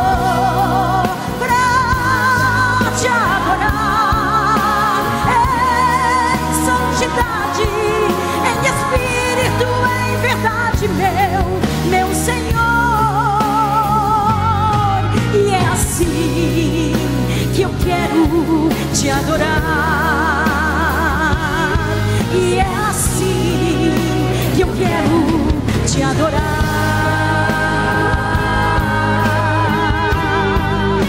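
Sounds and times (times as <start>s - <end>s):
instrumental accompaniment: 0.0s - 31.0s
woman singing with vibrato: 0.0s - 31.0s.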